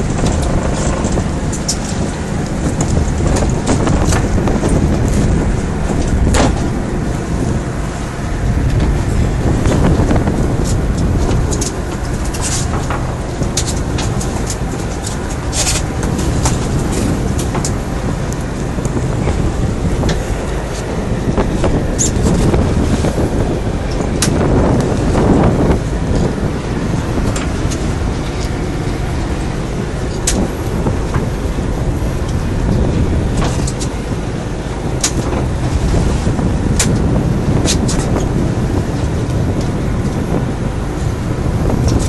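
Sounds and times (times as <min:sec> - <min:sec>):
boat engine running: 0:00.0 - 0:42.0
wind buffeting microphone: 0:00.0 - 0:42.0.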